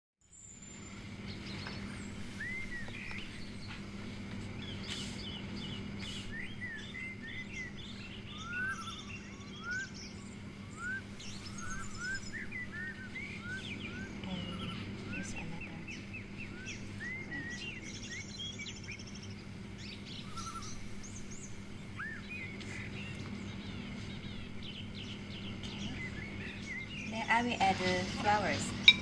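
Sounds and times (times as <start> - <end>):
small birds chirping: 0.2 - 29.0
steady low hum: 0.2 - 29.0.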